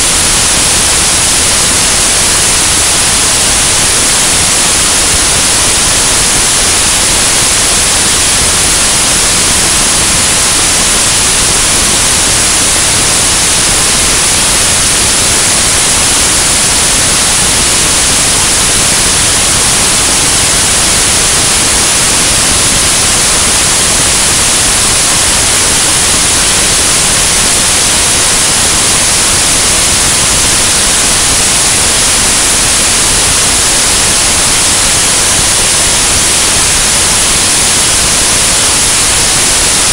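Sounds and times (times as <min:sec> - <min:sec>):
rushing hiss of airflow: 0:00.0 - 0:39.9.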